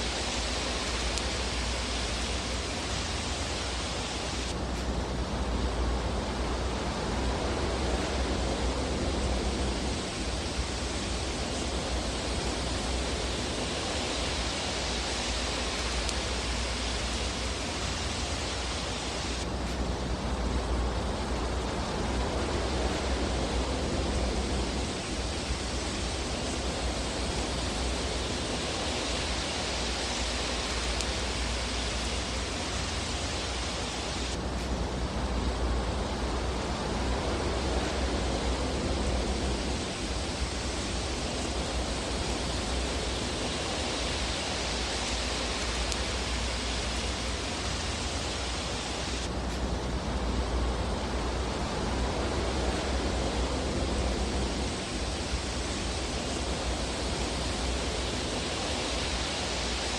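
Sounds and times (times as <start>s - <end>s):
fireplace fire hissing: 0.0s - 59.9s.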